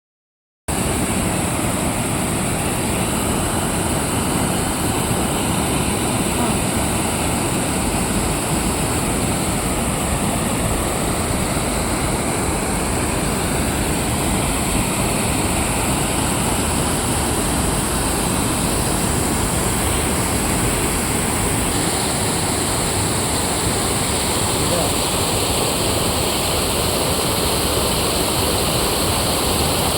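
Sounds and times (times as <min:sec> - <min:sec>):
water rushing over a drop: 0:00.7 - 0:29.9.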